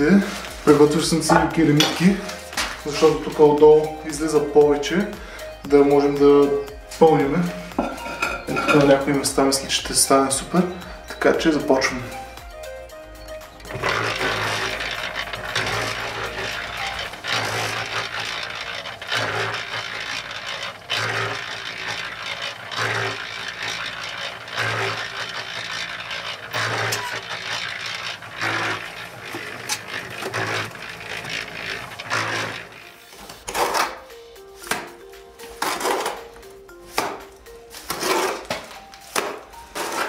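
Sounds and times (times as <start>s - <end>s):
mix swishing in drum: 0.0s - 12.7s, 13.6s - 33.5s
concrete mixer motor humming: 0.0s - 40.0s.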